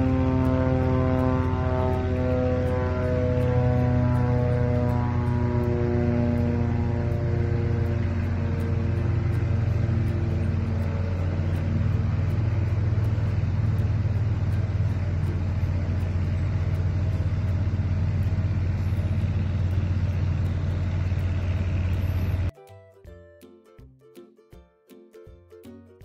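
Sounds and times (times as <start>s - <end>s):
steady low rumble: 0.0s - 22.5s.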